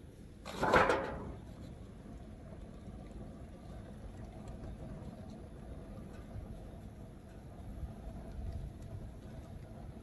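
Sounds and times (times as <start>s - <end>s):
charcoal fire rumbling: 0.0s - 10.0s
faint fire crackles: 0.0s - 10.0s.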